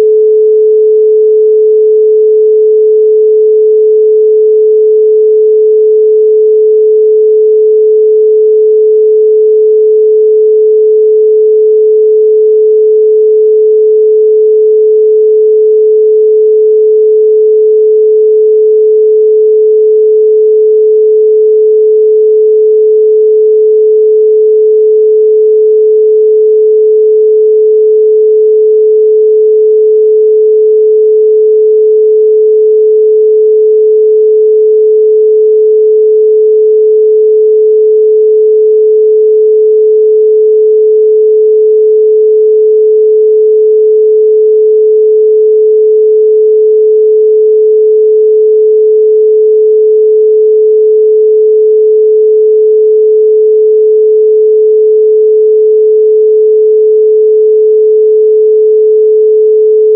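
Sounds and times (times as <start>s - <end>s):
pure sine tone: 0.0s - 59.9s.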